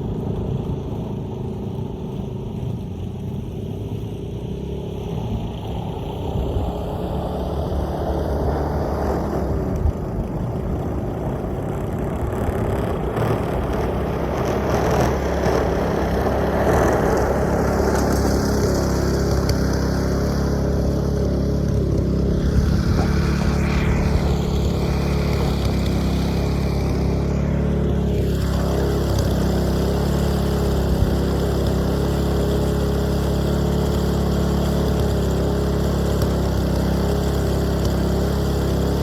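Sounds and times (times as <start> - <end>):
engine humming with rushing noise: 0.0 - 39.0.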